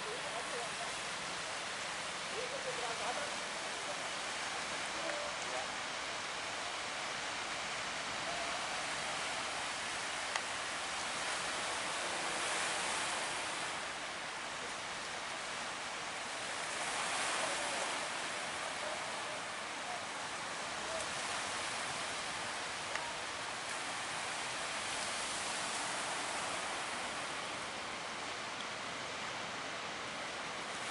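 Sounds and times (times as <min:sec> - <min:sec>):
surf washing and breaking: 0:00.0 - 0:30.9.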